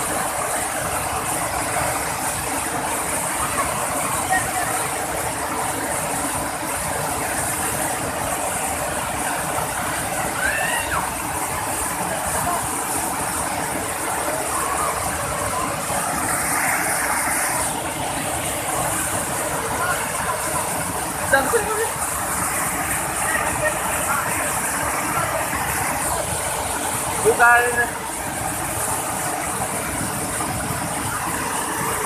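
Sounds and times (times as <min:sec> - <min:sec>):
waterfall rushing and splashing: 0:00.0 - 0:32.0.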